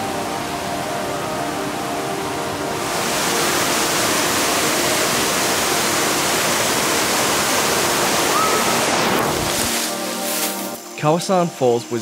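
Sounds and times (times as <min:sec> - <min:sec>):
waterfall roaring: 0:00.0 - 0:10.4.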